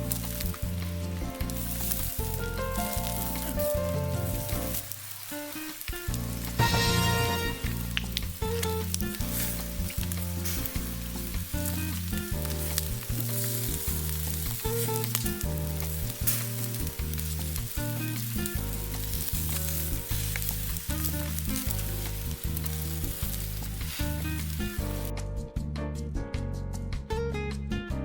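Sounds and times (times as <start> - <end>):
food sizzling: 0.0 - 25.1
background music with beat: 0.0 - 28.0.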